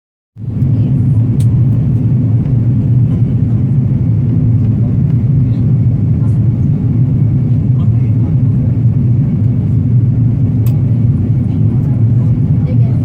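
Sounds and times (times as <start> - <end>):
airliner cabin engine rumble: 0.4 - 13.0.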